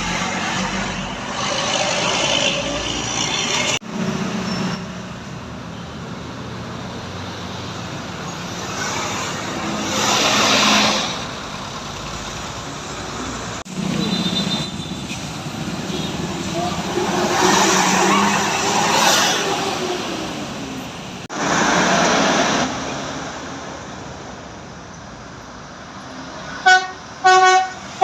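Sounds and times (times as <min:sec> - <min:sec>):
passing road traffic: 0:00.0 - 0:28.0.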